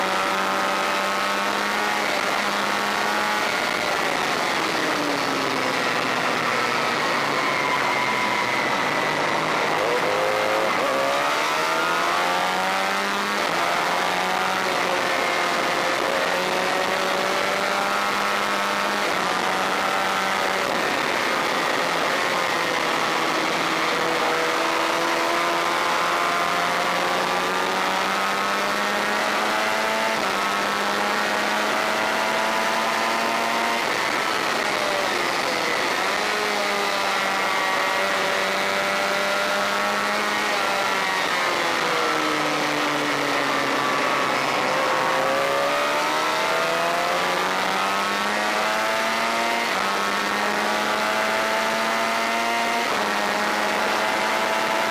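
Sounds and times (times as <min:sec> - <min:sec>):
motorcycle engine running hard: 0:00.0 - 0:54.9.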